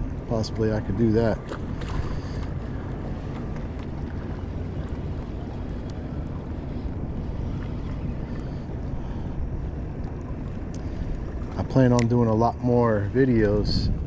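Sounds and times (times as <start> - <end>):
faint low hum: 0.0 - 14.0
low rumble of wind and water: 0.0 - 14.0.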